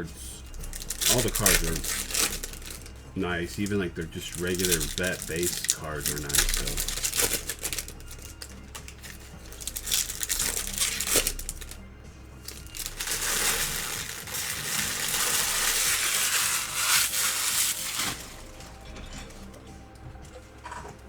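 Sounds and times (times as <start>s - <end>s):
background music: 0.0s - 21.0s
card pack wrappers crinkling: 0.3s - 19.7s.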